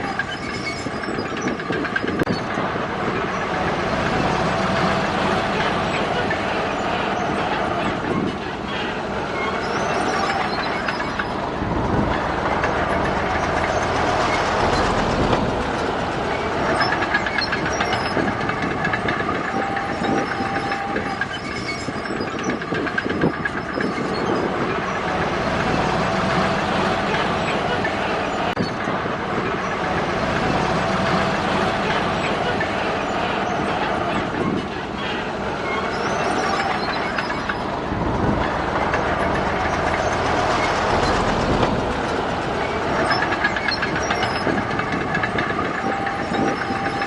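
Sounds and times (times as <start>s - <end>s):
diesel engines running: 0.0s - 47.0s
metallic track clatter: 0.0s - 47.0s.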